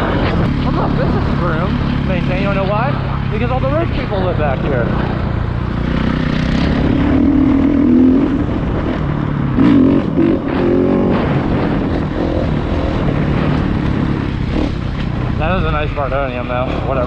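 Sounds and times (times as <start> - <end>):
wind noise on microphone: 0.0 - 4.2, 5.1 - 17.0
dirt bike engine revving: 0.0 - 17.0.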